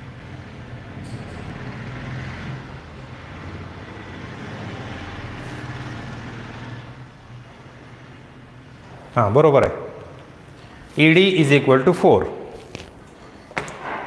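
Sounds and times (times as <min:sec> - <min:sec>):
distant road traffic rumble: 0:00.0 - 0:14.0.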